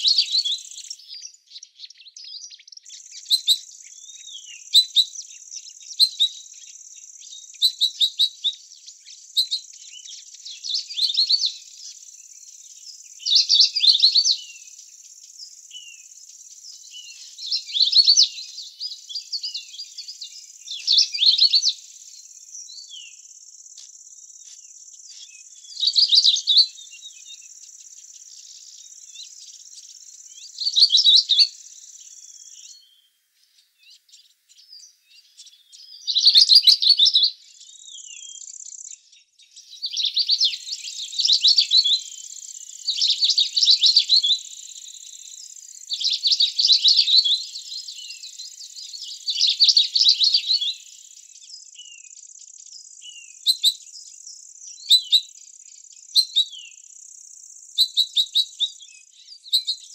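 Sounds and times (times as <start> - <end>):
insects droning: 0.0 - 59.9
songbird singing: 0.0 - 59.9.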